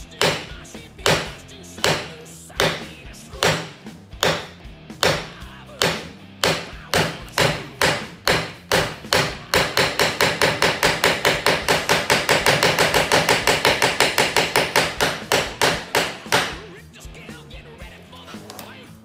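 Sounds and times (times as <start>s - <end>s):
metallic knocks on metal plate: 0.2s - 16.5s.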